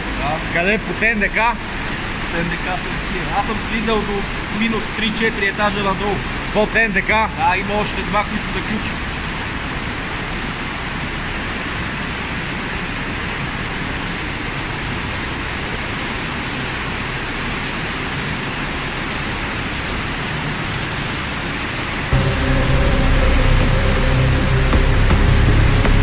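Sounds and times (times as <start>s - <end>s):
stream water rushing through tunnel: 0.0s - 26.0s.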